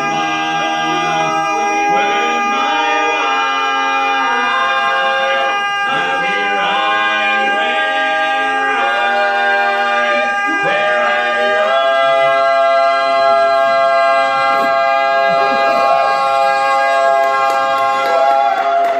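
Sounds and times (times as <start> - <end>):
men singing a cappella in harmony: 0.0 - 16.1.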